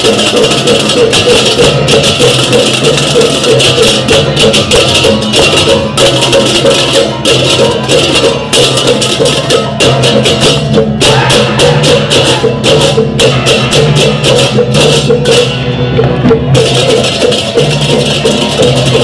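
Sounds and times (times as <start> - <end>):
gamelan music: 0.0 - 19.0.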